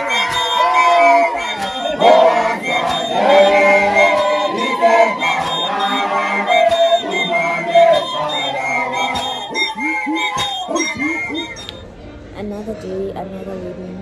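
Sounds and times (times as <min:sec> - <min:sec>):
crowd singing and chanting: 0:00.0 - 0:11.8
sharp percussive hits: 0:00.0 - 0:11.8.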